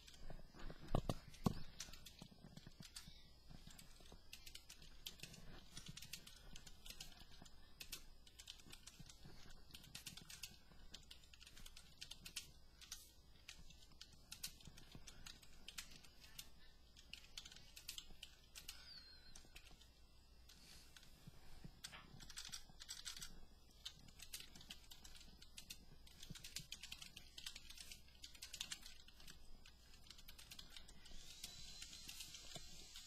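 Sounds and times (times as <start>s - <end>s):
typing on keyboard: 0.0s - 19.9s, 21.0s - 33.0s.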